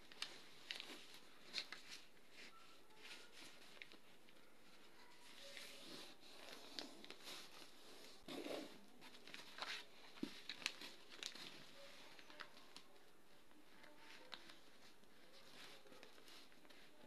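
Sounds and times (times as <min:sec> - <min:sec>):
paper rustling and crinkling: 0:00.0 - 0:17.0.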